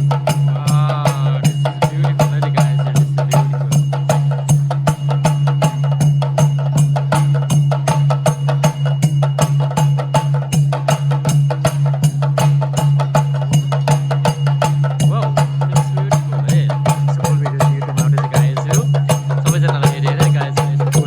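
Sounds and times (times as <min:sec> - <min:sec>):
drum: 0:00.0 - 0:21.0.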